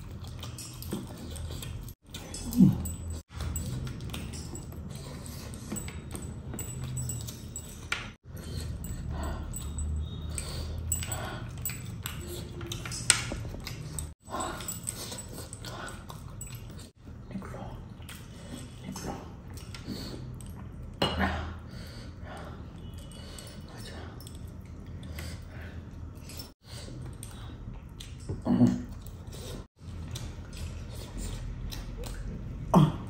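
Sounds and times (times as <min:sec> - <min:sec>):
chewing: 0:00.0 - 0:21.0, 0:22.4 - 0:33.0.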